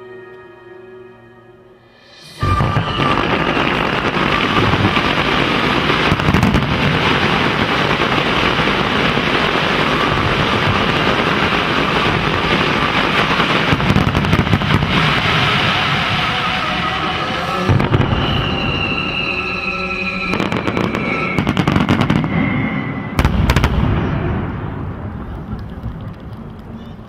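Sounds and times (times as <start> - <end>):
fireworks bangs and crackling: 2.2 - 27.0.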